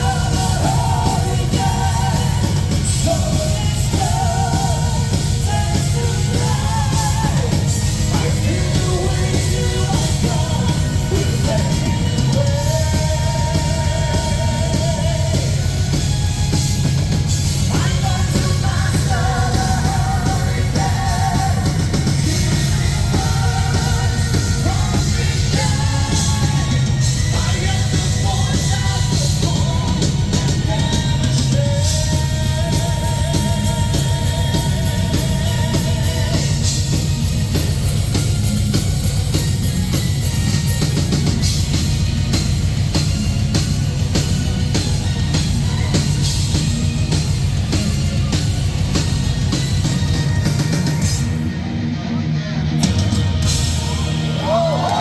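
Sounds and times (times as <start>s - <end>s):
distorted guitars: 0.0s - 55.0s
drum kit: 0.0s - 55.0s
metal band playing: 0.0s - 55.0s.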